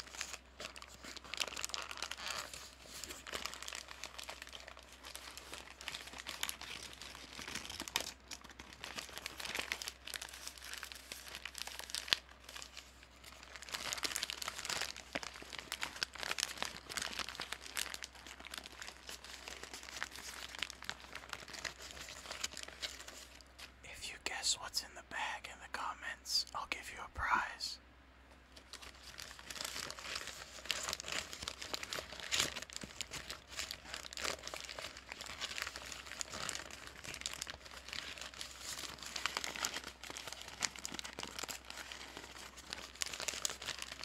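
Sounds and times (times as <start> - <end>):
paper bag crinkling: 0.0 - 23.7, 28.6 - 44.0.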